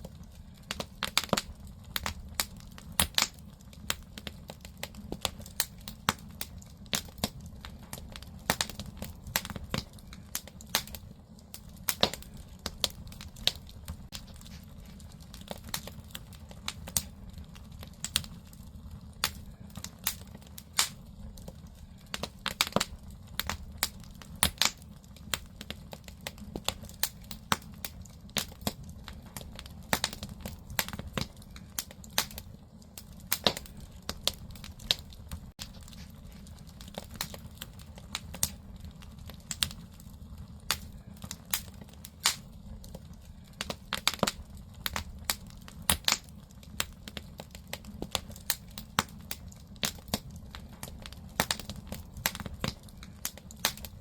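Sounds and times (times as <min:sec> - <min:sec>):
firewood crackling and popping: 0:00.0 - 0:54.0
low rumble of fire: 0:00.0 - 0:54.0.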